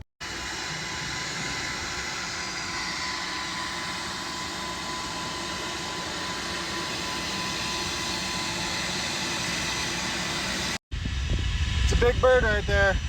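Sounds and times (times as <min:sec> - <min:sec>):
jet engines rushing and whining: 0:00.2 - 0:13.0.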